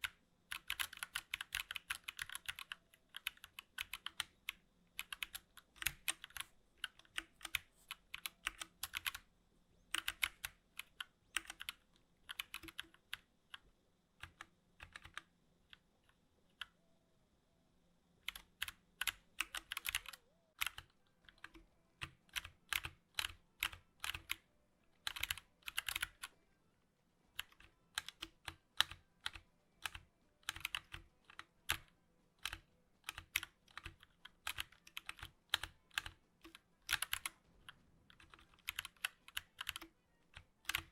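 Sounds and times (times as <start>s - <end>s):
mechanical keyboard typing: 0.0s - 9.3s, 9.9s - 16.8s, 18.2s - 26.4s, 27.3s - 40.9s.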